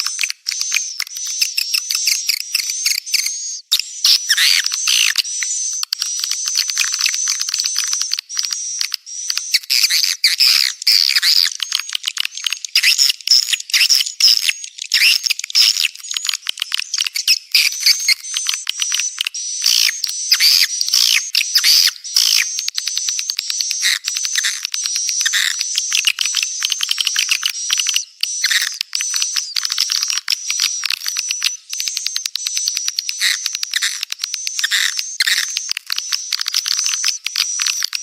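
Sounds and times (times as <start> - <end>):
rapid clicks: 4.4 - 38.0.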